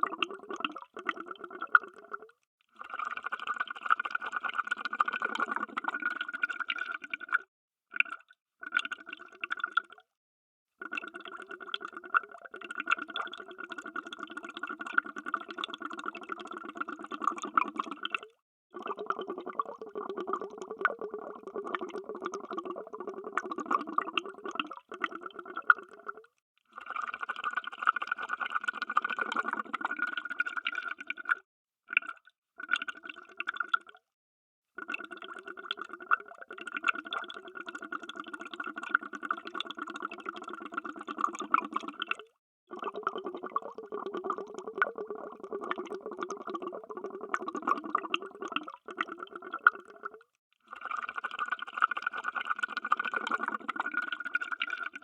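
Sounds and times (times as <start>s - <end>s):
underwater bubbling: 0.0s - 3.8s, 4.5s - 10.0s, 10.9s - 26.4s, 28.7s - 33.9s, 34.8s - 55.0s.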